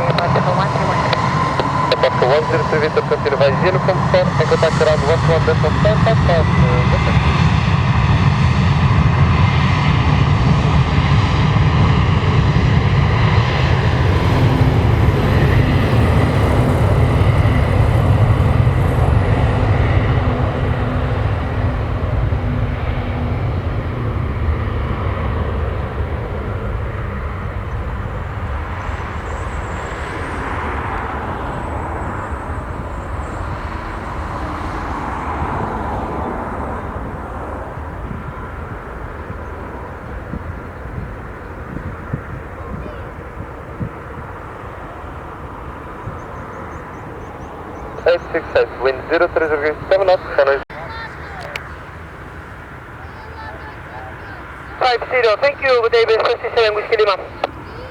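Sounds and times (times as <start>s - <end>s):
jet engine rumble: 0.0s - 57.9s.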